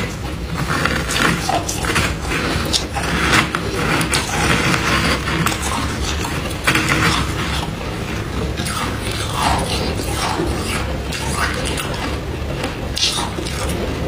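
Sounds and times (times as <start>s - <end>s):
spoon scraping frost: 0.0s - 14.0s.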